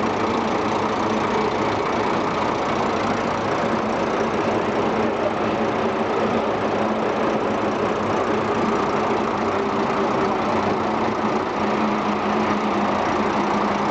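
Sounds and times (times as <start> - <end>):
diesel truck engine idling: 0.0 - 13.9.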